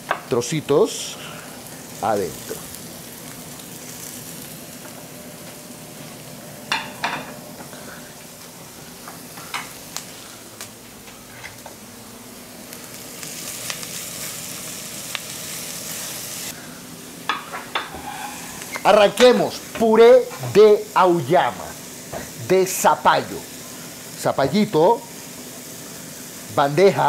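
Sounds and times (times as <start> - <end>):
onions and pork sizzling in butter: 0.0 - 27.0.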